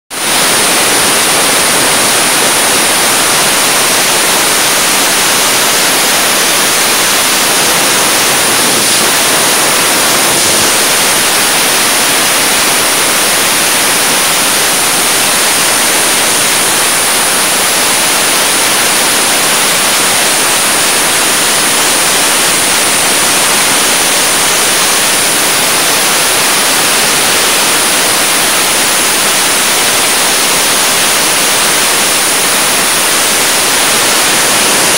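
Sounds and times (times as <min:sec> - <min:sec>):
wet abrasive blasting hiss: 0:00.2 - 0:34.9.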